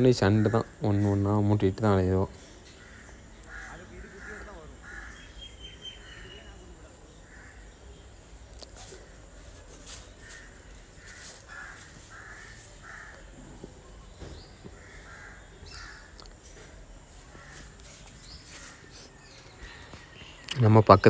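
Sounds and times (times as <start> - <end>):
crows cawing: 0.0 - 1.3, 2.4 - 7.9, 9.8 - 20.2.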